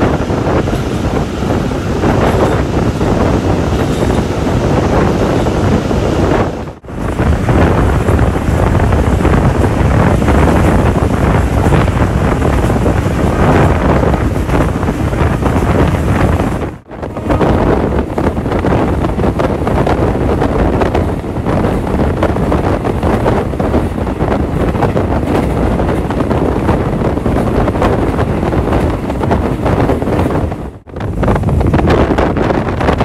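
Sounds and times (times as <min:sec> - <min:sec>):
train running noise: 0:00.0 - 0:33.0
wind buffeting microphone: 0:00.0 - 0:33.0.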